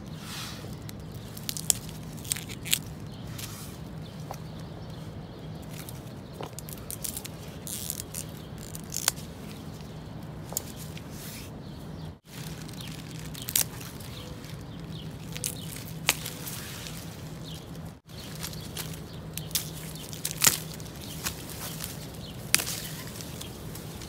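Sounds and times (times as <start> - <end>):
bamboo leaves rustling: 0.0 - 11.5, 12.2 - 24.0
low steady hum: 0.0 - 24.0
bamboo stalks snapping: 0.7 - 3.5, 5.6 - 11.1, 12.2 - 24.0.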